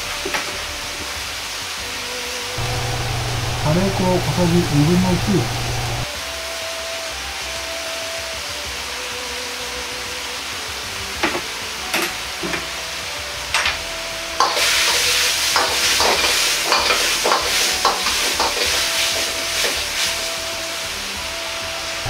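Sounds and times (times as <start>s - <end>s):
broth simmering with hiss: 0.0s - 22.0s.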